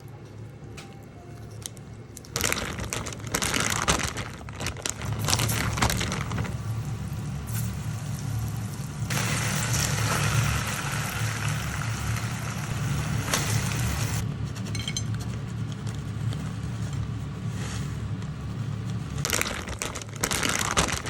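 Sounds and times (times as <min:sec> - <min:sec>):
crinkling and crackling: 0:00.0 - 0:21.0.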